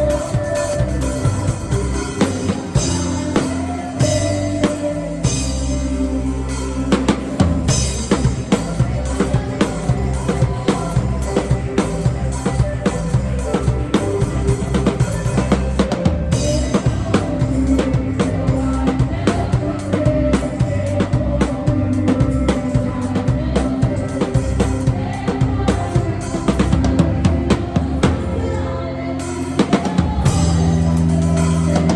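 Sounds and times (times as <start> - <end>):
backing music: 0.0 - 31.9
drum kit beat: 0.0 - 31.9.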